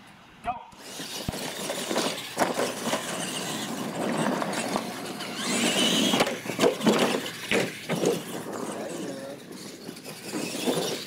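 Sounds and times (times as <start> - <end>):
toy truck motors and gears whining: 0.8 - 11.0
toy trucks thumping on landing: 0.8 - 11.0.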